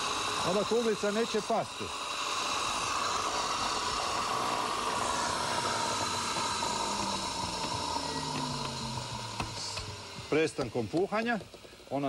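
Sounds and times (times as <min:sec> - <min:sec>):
air jet rushing hiss: 0:00.0 - 0:12.0.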